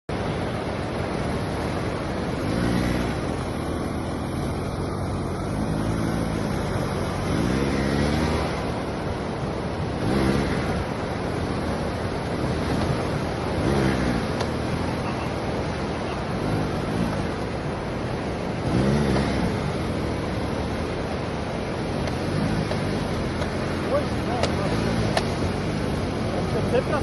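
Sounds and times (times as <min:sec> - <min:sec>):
steady rushing noise: 0:00.0 - 0:27.0
motorcycle engine revving: 0:00.1 - 0:27.0.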